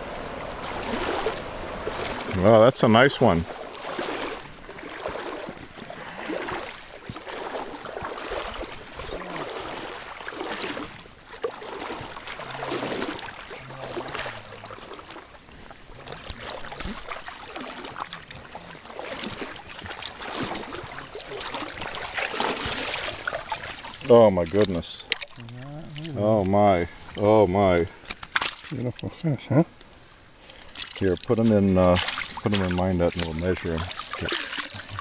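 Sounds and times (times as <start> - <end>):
river water splashing: 0.0 - 35.0
fish thrashing at the surface: 0.6 - 2.4, 3.4 - 15.3, 16.0 - 26.3, 28.0 - 29.0, 30.6 - 35.0.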